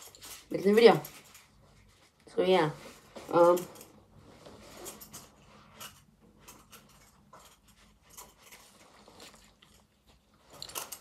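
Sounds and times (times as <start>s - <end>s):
clothing rustling: 0.0s - 11.0s.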